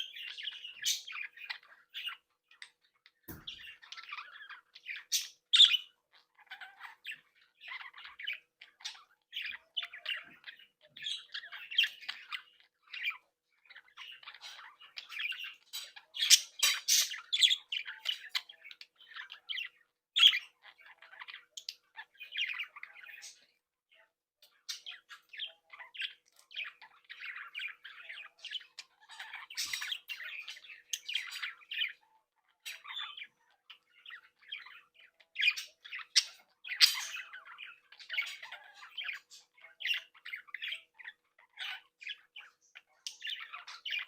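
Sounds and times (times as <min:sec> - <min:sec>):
budgerigars chattering and squawking: 0:00.0 - 0:44.0.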